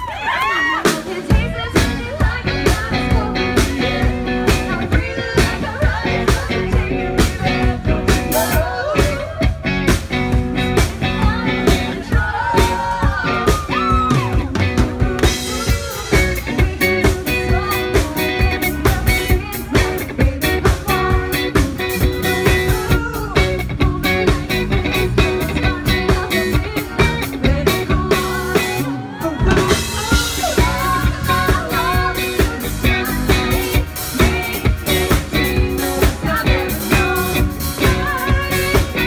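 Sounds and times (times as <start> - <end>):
woman singing: 0.0 - 10.0, 10.7 - 39.0
live band playing: 0.0 - 39.0.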